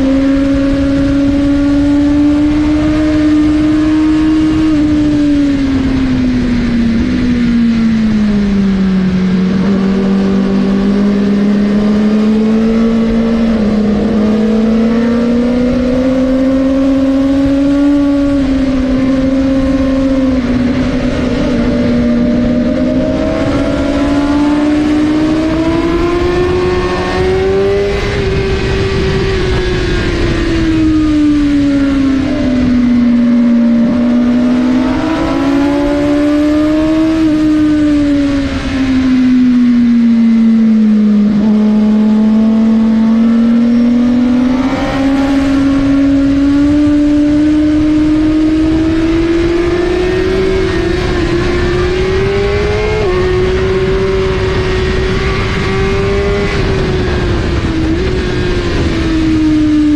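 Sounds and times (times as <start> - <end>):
motorcycle engine at high revs: 0.0 - 59.9
steady rushing noise: 0.0 - 59.9.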